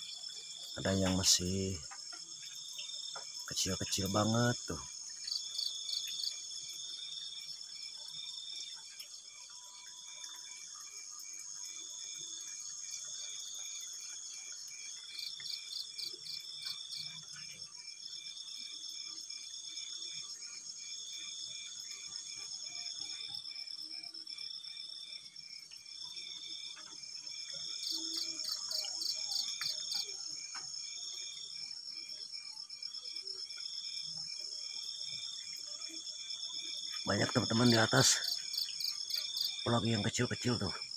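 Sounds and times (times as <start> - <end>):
insect trill: 0.0 - 40.9.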